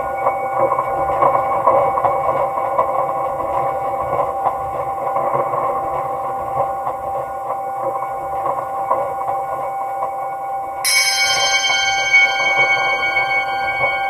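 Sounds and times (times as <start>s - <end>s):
drone of held tones: 0.0s - 14.0s.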